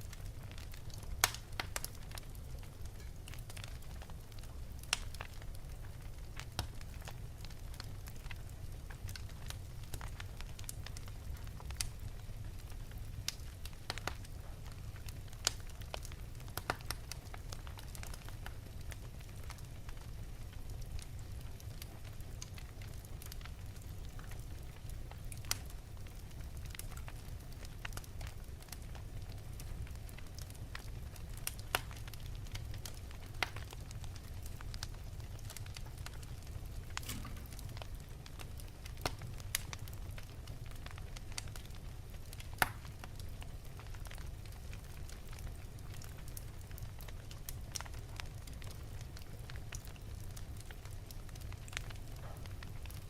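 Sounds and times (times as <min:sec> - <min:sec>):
fire crackling and popping: 0:00.0 - 0:53.0
low steady fire rumble: 0:00.0 - 0:53.0.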